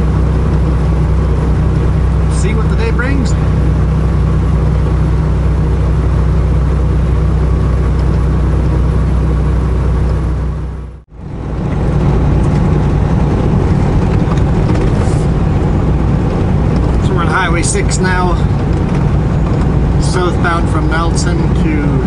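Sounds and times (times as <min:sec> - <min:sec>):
truck engine drone and road noise: 0:00.0 - 0:22.0.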